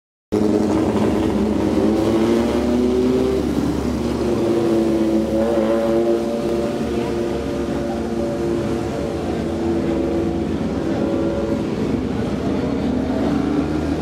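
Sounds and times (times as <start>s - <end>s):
racing car engines passing: 0.4s - 14.0s.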